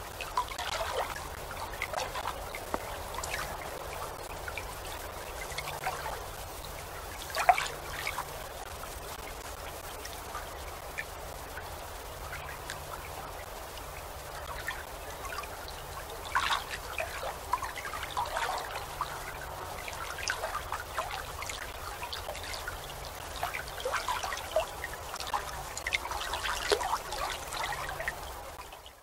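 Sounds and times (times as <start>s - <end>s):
water lapping and trickling: 0.0s - 29.0s.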